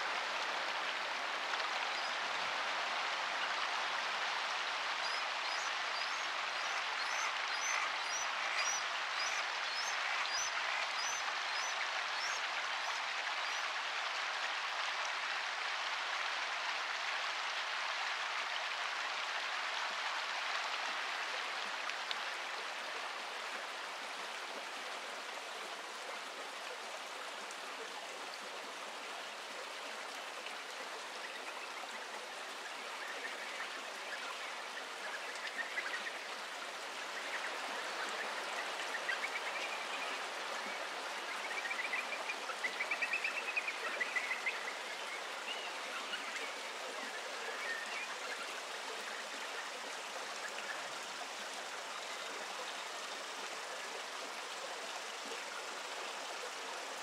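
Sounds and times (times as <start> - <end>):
stream rushing: 0.0 - 57.0.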